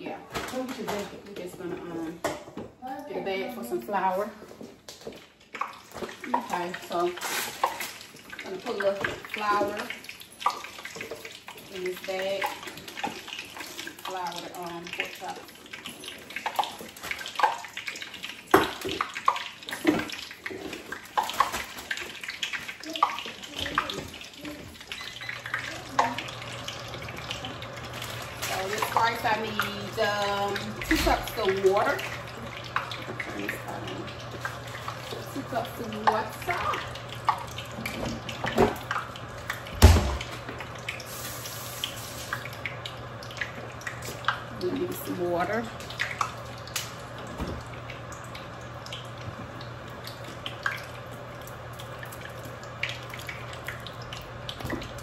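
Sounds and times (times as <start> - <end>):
kitchen tap running water: 0.0 - 55.0.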